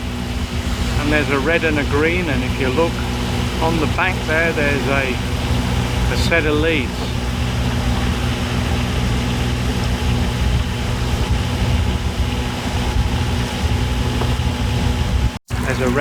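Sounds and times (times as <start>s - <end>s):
outboard motor running: 0.0s - 16.0s
wind on microphone: 0.0s - 16.0s.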